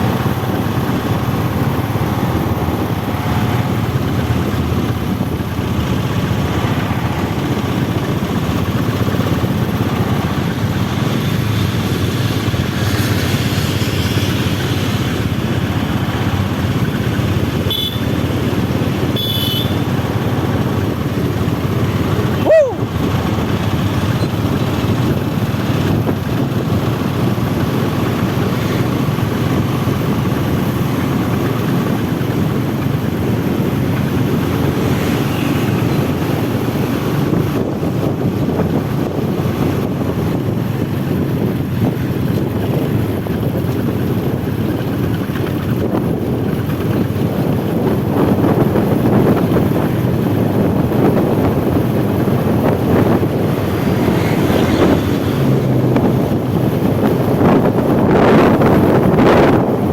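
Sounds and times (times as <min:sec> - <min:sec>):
heavy road traffic rumble: 0:00.0 - 0:59.9
wind buffeting microphone: 0:00.0 - 0:59.9.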